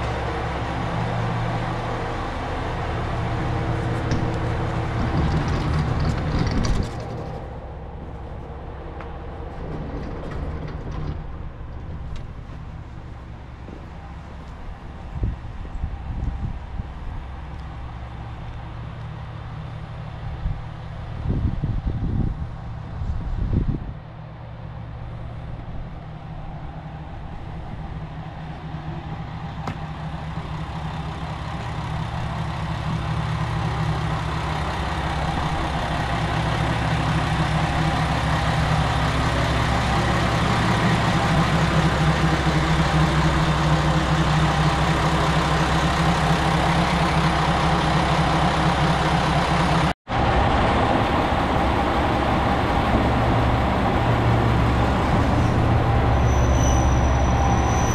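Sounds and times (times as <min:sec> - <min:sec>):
diesel railcar engine humming: 0:00.0 - 0:57.9.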